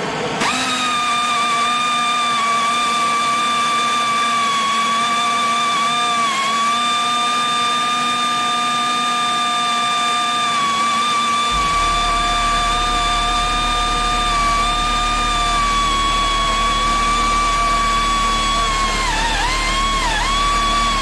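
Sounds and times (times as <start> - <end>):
pneumatic angle grinder whine: 0.0 - 21.0.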